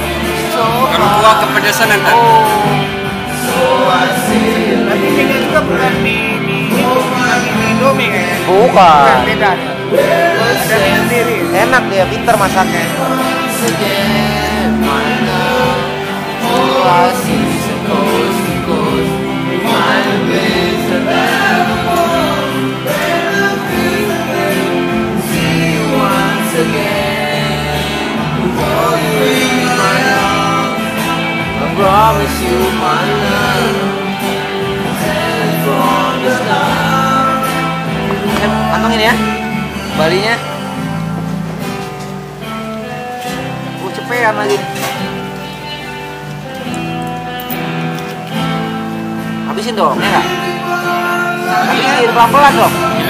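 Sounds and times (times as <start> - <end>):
person singing: 0.0 - 40.0, 50.0 - 53.0
instrumental accompaniment: 0.0 - 53.0.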